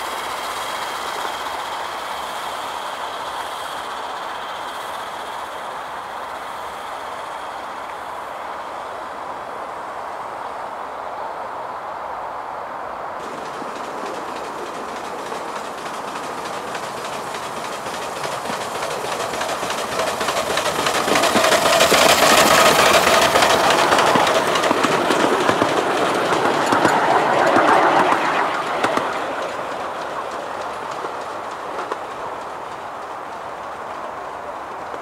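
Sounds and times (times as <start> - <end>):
miniature train wheels clicking: 0.0 - 8.0, 13.2 - 35.0.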